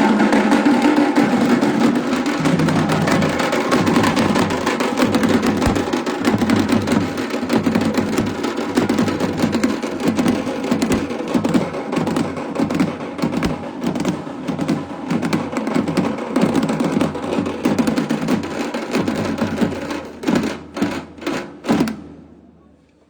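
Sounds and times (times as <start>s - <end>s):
drums played fast: 0.0s - 20.9s.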